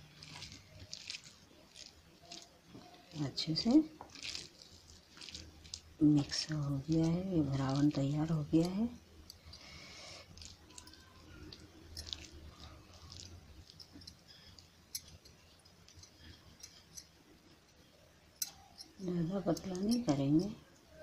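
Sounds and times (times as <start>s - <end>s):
hands squishing soft food: 0.0s - 21.0s.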